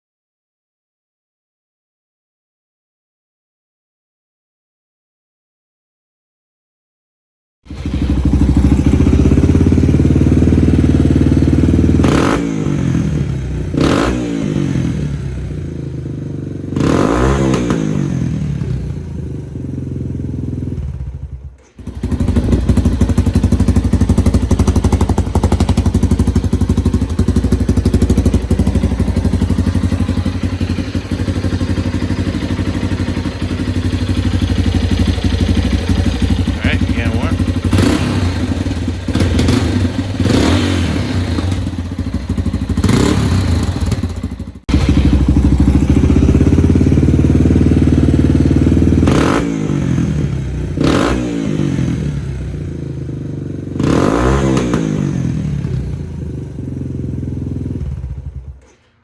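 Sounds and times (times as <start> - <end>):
motorcycle engine revving: 7.7 - 58.7.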